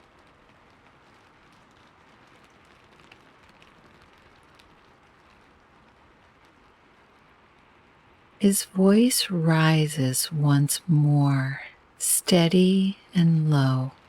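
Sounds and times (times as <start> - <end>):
faint steady rain: 0.0 - 14.0.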